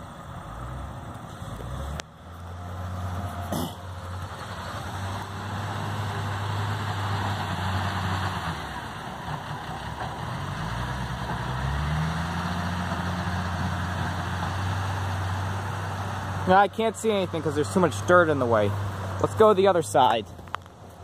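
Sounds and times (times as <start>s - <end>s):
diesel engine running and revving: 0.0s - 21.0s.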